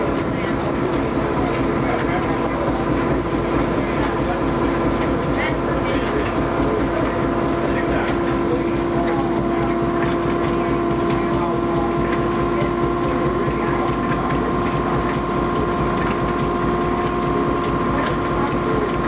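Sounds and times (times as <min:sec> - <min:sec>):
cotton gin machinery humming: 0:00.0 - 0:19.0.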